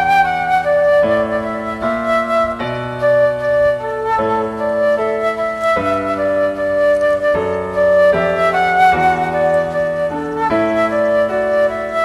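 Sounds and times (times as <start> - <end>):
gentle flute-like melody: 0.0 - 12.0.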